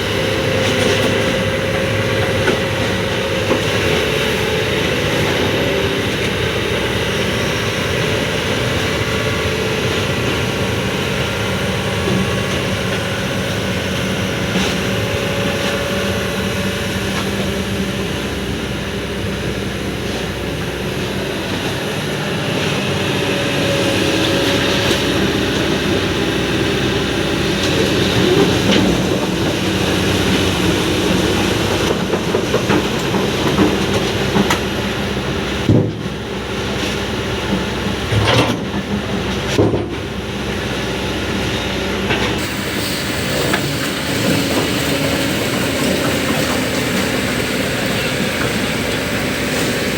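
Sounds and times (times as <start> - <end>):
excavator running: 0.0 - 49.9.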